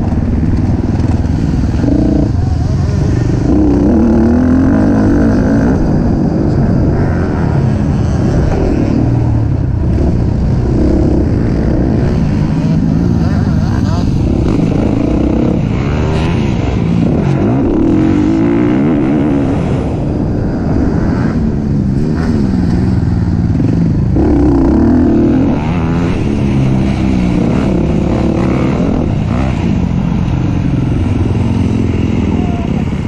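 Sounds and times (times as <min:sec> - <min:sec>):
racing engine revving: 0:00.0 - 0:20.0, 0:20.7 - 0:33.0.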